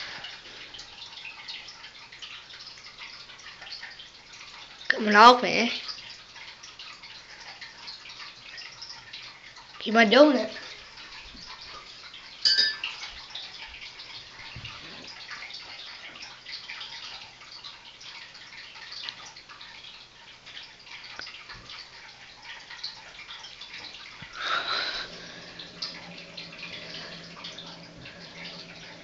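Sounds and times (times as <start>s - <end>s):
water dripping and trickling: 0.0s - 29.0s.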